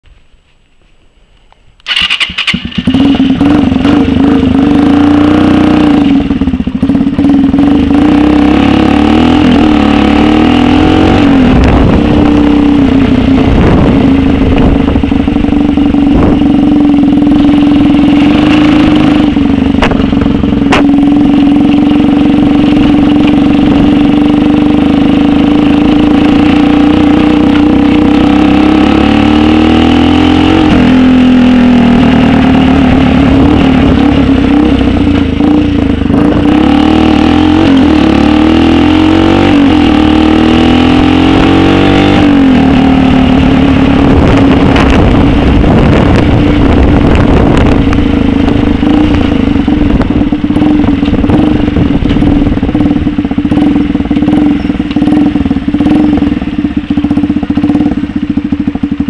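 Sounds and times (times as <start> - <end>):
motorcycle engine riding off: 1.8 - 59.0.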